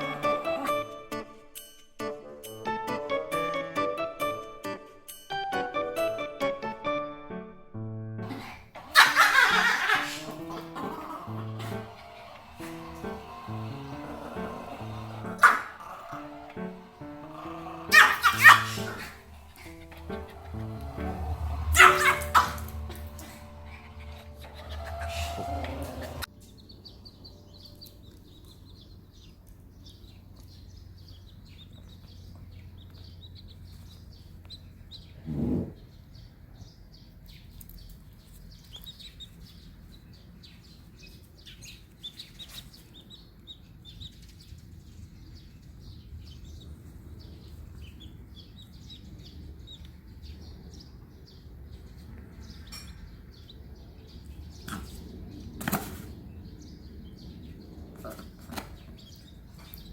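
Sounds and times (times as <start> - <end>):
chicks peeping: 8.4 - 35.2, 36.0 - 59.9.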